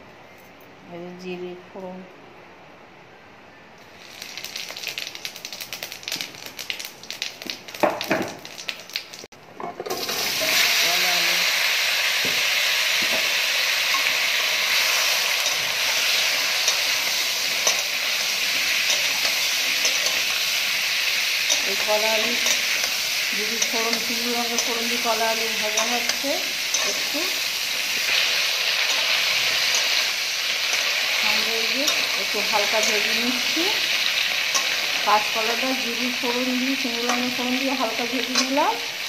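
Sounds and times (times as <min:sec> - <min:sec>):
seeds spluttering in hot oil: 0:03.8 - 0:09.3, 0:09.9 - 0:39.0
loud frying sizzle: 0:03.8 - 0:39.0.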